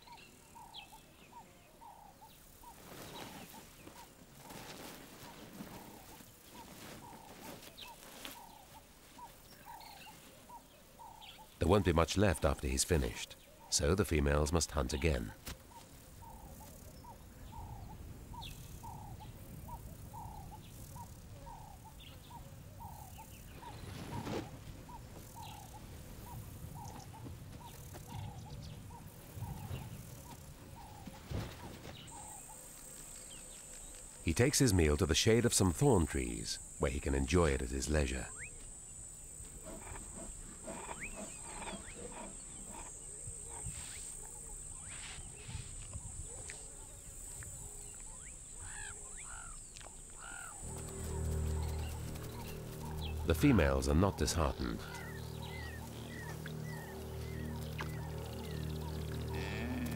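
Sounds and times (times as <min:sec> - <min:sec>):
bird calling: 0:00.0 - 0:59.9
high insect drone: 0:00.0 - 0:59.9.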